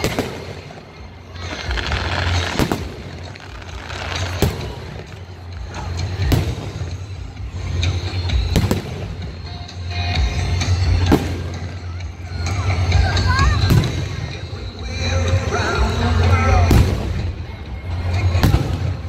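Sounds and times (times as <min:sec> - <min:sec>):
music with deep bass: 0:00.0 - 0:19.0.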